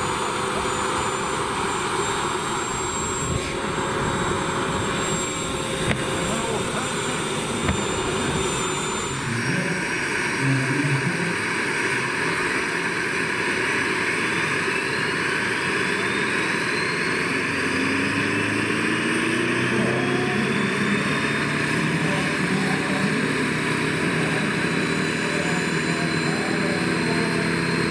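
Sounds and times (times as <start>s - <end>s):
turbine rush: 0.0s - 27.9s
turbine whine rising in pitch: 0.0s - 27.9s.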